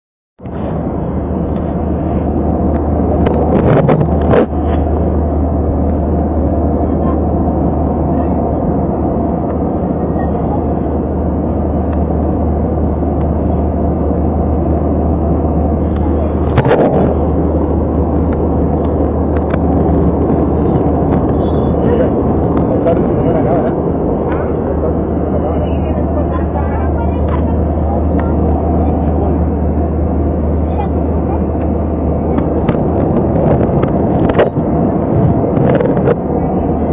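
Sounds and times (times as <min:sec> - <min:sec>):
airplane engine drone: 0:00.4 - 0:36.9.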